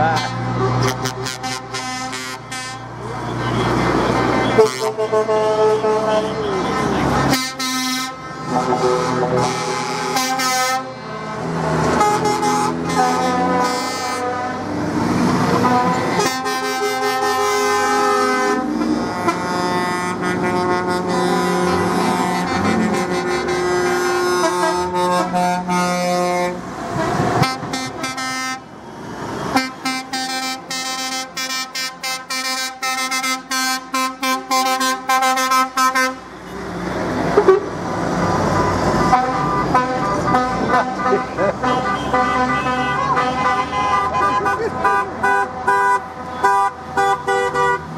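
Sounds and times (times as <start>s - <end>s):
truck engines: 0.0s - 47.9s
lorry air horns blowing: 0.1s - 2.9s, 4.5s - 14.7s, 15.5s - 26.6s, 27.4s - 28.6s, 29.5s - 36.3s, 38.7s - 47.9s.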